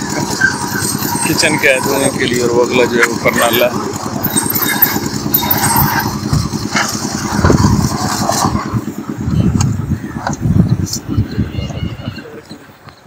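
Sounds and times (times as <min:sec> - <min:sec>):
construction machinery engine rumble: 0:00.0 - 0:13.0.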